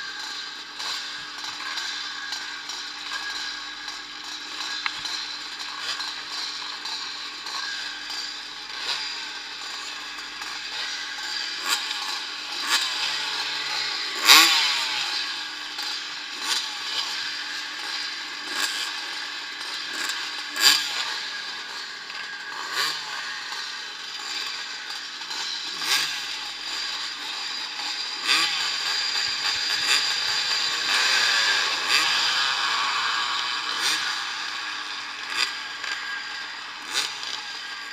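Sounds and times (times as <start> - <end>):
motocross engines revving: 0.0 - 37.9.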